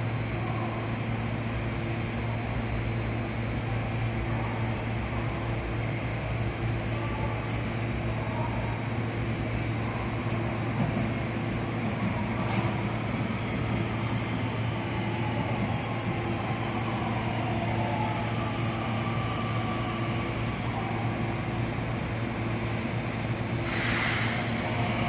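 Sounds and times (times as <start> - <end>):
electric train humming: 4.8 - 25.0.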